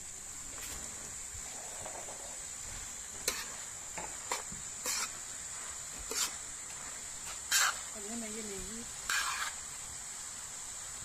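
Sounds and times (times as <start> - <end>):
food frying on a griddle: 0.0 - 11.0
utensil scraping a griddle: 0.6 - 9.7.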